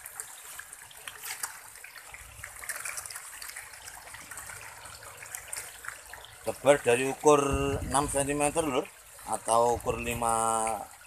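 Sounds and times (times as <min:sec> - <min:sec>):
fish splashing at water surface: 0:00.0 - 0:10.0.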